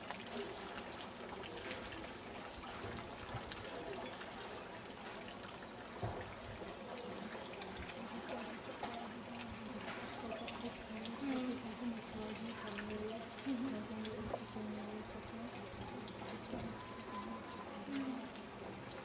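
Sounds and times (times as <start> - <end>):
outdoor background noise: 0.0 - 19.0
distant people talking: 0.2 - 19.0.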